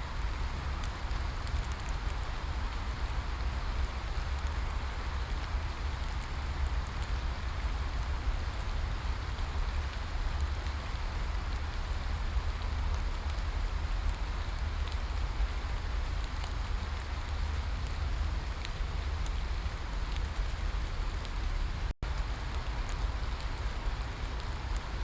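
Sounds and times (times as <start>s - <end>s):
rain hissing: 0.0s - 25.0s
raindrop ticks: 0.1s - 25.0s.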